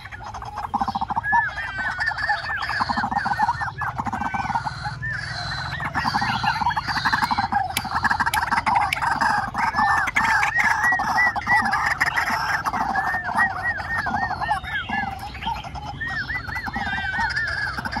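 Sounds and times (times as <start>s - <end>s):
dense background bird calling: 0.0s - 18.0s
waterhen calling: 0.0s - 18.0s.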